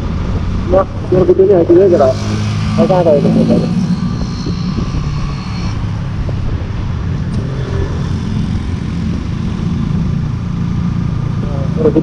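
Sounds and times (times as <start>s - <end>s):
motorcycle engine running: 0.0s - 12.0s
road and traffic noise: 0.0s - 12.0s.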